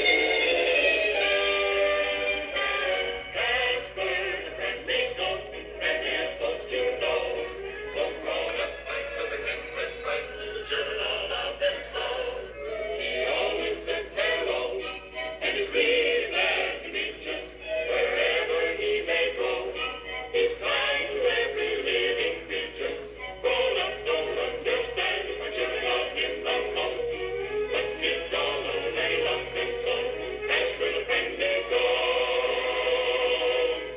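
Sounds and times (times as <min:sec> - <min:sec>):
toy playing sung tune: 0:00.0 - 0:33.9.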